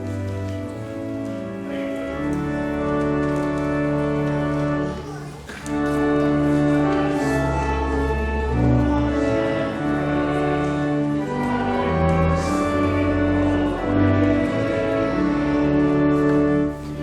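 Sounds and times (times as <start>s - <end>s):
pipe organ playing chords: 0.0s - 17.0s.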